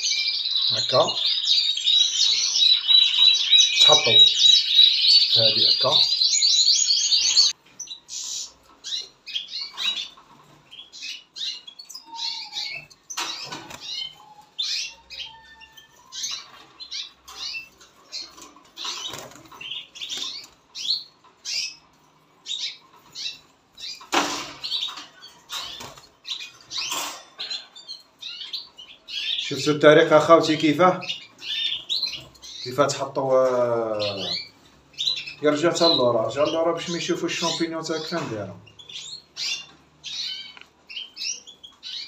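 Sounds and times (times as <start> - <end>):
caged birds chirping: 0.0 - 42.0.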